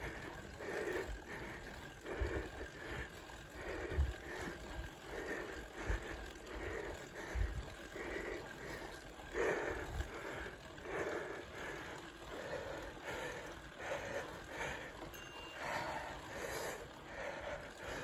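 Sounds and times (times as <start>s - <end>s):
bike rumbling on dirt trail: 0.0s - 18.0s
heavy rhythmic breathing: 0.0s - 18.0s.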